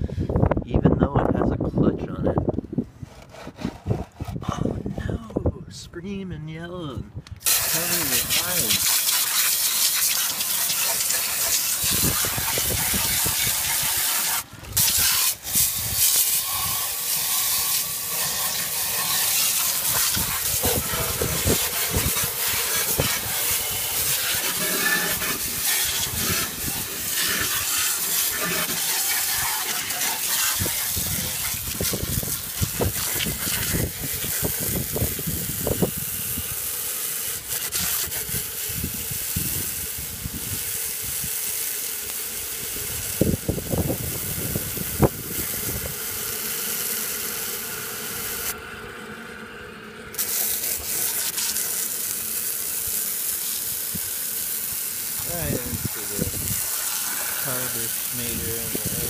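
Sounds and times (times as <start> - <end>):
hose water spraying: 7.4 - 48.6, 50.1 - 59.0.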